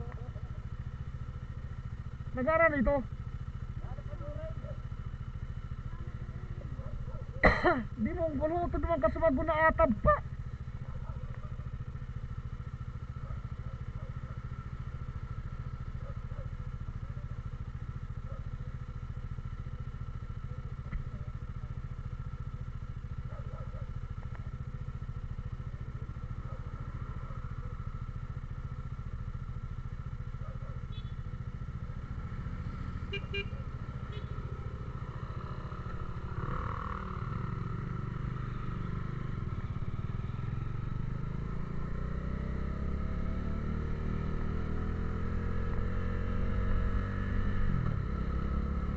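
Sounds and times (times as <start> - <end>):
vehicle engine running on road: 0.0 - 48.9.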